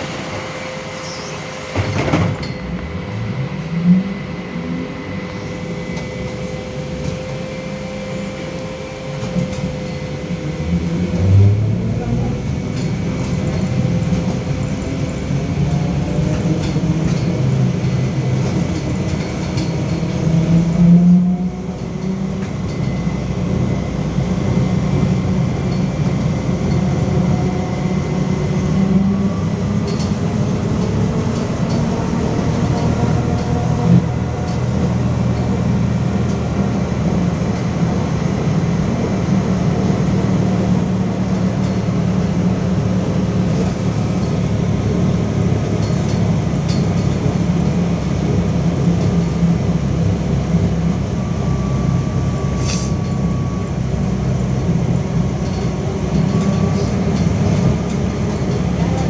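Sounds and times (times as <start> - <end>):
trolleybus ride rumble: 0.0 - 59.0.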